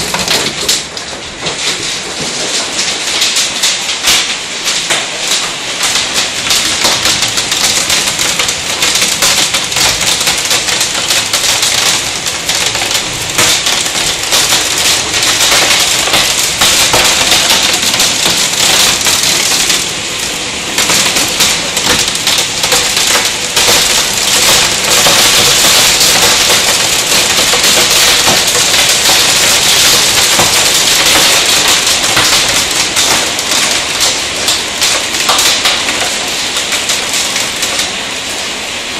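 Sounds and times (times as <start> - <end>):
hail clattering: 0.0 - 38.6.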